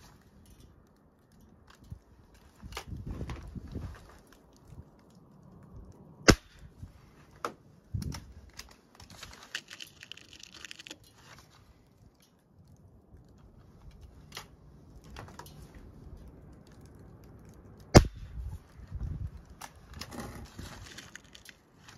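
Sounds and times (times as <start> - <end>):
rifle handling clicks and rattles: 0.0 - 21.9.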